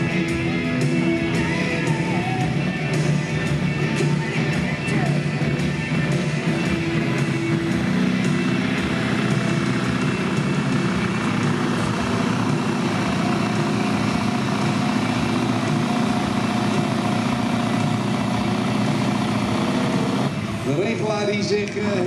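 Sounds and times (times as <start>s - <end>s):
diesel truck engine under full load: 0.0s - 22.0s.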